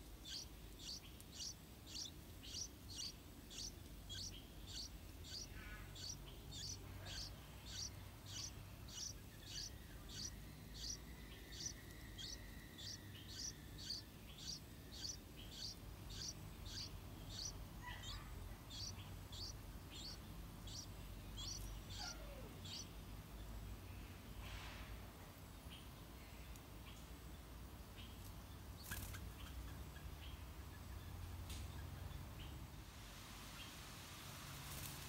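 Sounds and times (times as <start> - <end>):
small bird chirping: 0.0 - 23.6, 27.9 - 32.6.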